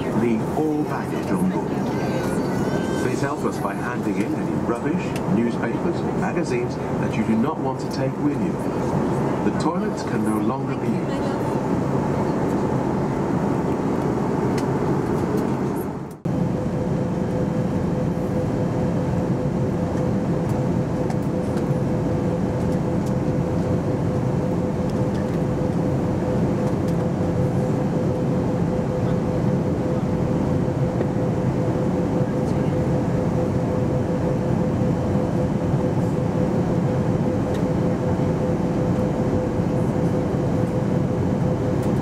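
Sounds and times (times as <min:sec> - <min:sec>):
jet engines humming: 0:00.0 - 0:42.0.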